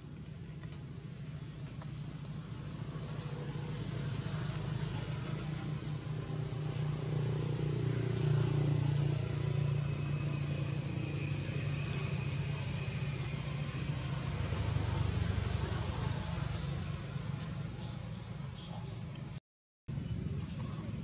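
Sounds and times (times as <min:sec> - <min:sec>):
engine droning: 0:00.0 - 0:19.4.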